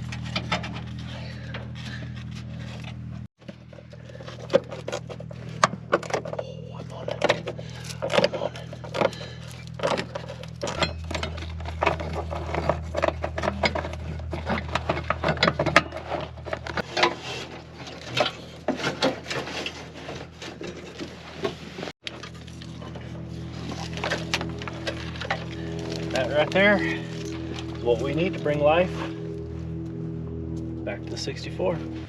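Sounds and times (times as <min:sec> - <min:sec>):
steady low hum: 0:00.0 - 0:18.6, 0:22.0 - 0:32.0
hand tools and metal parts clattering: 0:00.0 - 0:32.0.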